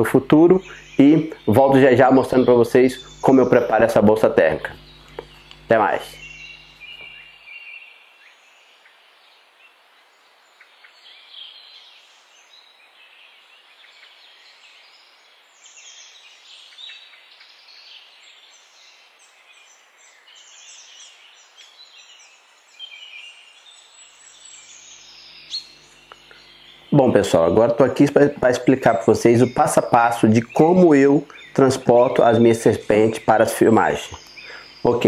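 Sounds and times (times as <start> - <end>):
faint outdoor hiss: 0.0 - 35.0
small birds chirping: 0.0 - 35.0.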